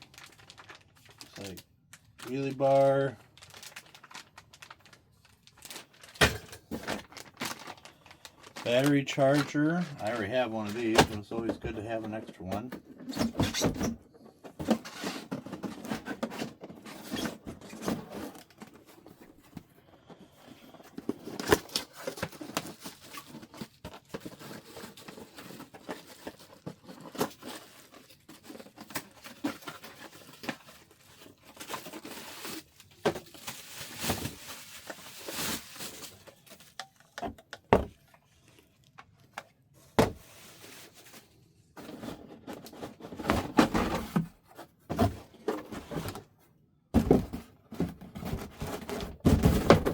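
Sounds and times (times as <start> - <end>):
cardboard and plastic rustling: 0.0 - 49.9.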